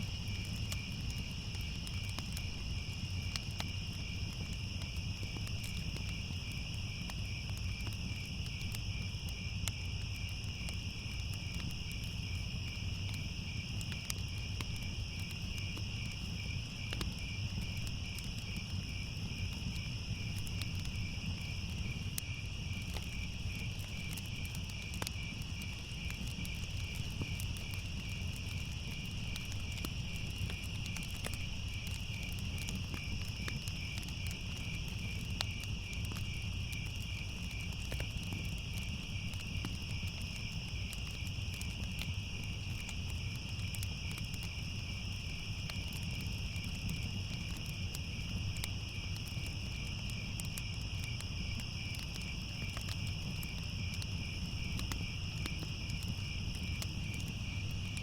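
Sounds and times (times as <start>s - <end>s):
fire crackling: 0.0s - 58.0s
crickets chirring: 0.1s - 58.0s.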